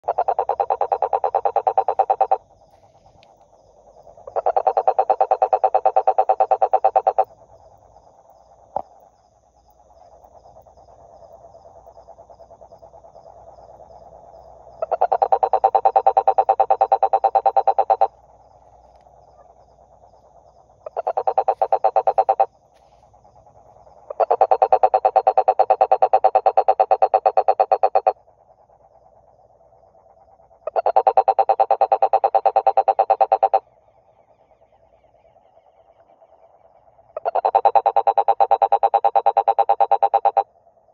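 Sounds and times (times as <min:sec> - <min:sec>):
frog croaking: 0:00.0 - 0:40.9.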